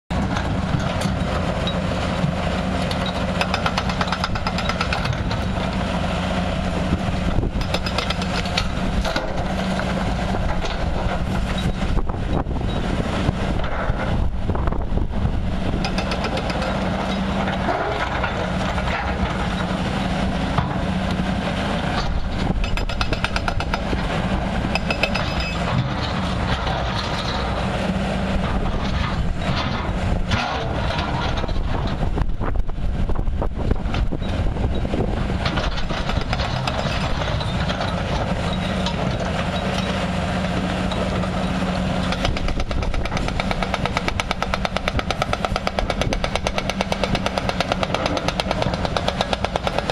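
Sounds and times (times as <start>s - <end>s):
diesel excavator engines running: 0.1s - 49.9s
hydraulic breaker pounding rock: 0.1s - 49.9s.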